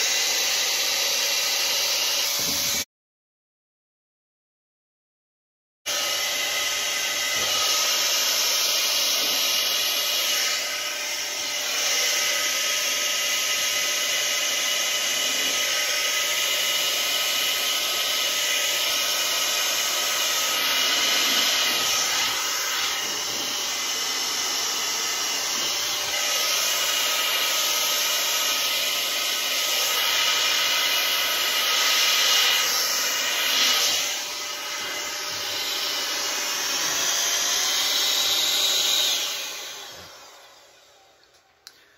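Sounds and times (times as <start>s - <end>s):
hair dryer blowing: 0.0s - 2.9s, 5.9s - 41.9s.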